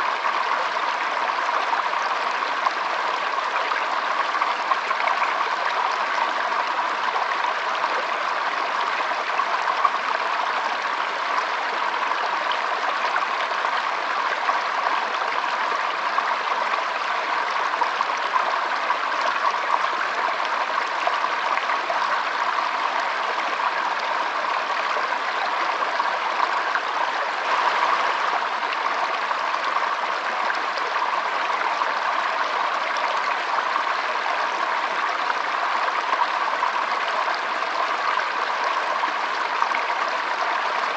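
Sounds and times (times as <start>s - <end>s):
forest stream babbling: 0.0s - 40.9s.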